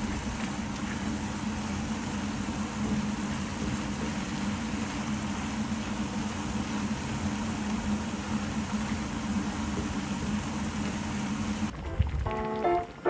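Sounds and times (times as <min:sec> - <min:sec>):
mechanical hum with hiss: 0:00.0 - 0:11.7.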